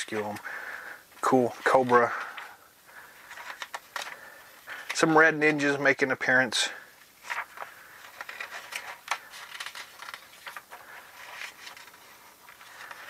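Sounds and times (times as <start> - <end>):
paper pages rustling: 0.0 - 5.4, 7.0 - 13.0.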